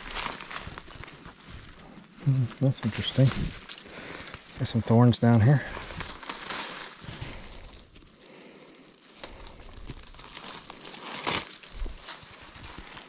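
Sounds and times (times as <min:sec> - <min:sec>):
brush and dry leaves rustling: 0:00.0 - 0:13.0
twigs cracking: 0:00.0 - 0:13.0.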